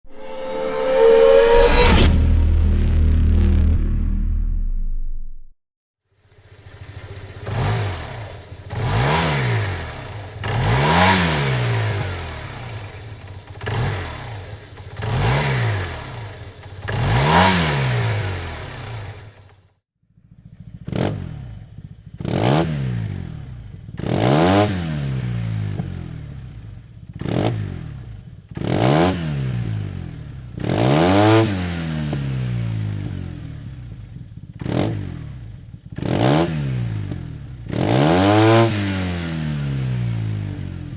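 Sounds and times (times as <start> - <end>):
motorcycle engine revving: 6.3 - 19.5, 20.2 - 40.9.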